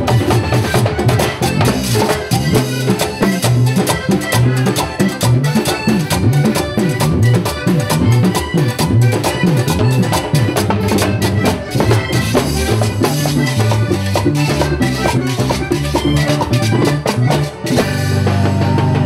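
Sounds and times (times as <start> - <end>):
button accordion: 0.0 - 19.0
congas: 0.0 - 19.0
drums: 0.0 - 19.0
electric bass: 0.0 - 19.0.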